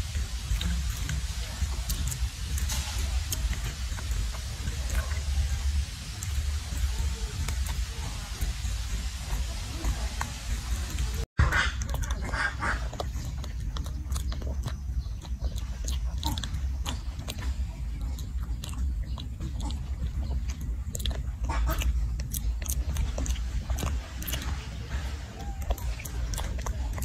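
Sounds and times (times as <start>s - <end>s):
monkey wet mouth clicks: 0.0s - 27.0s
steady low rumble: 0.0s - 27.0s.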